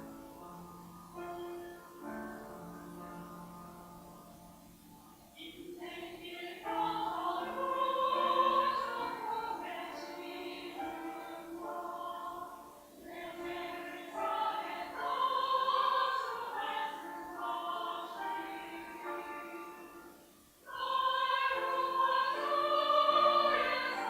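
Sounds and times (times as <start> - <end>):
church choir singing: 0.0 - 24.0.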